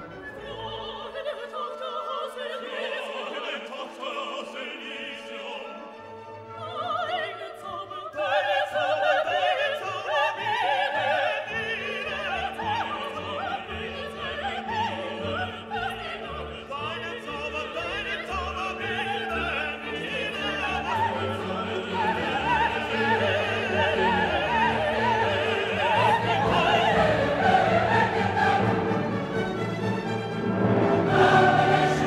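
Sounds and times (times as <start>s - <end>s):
operatic orchestral music: 0.0s - 32.0s.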